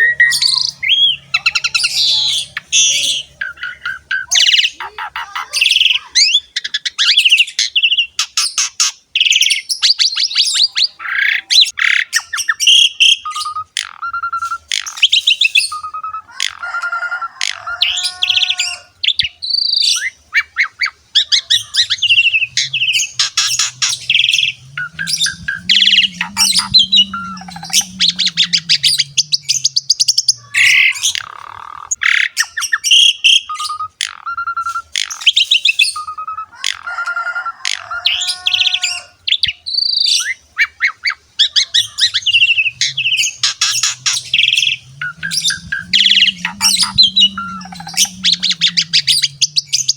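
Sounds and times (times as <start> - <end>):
starling singing: 0.0 - 16.6, 17.4 - 36.9, 37.7 - 49.9.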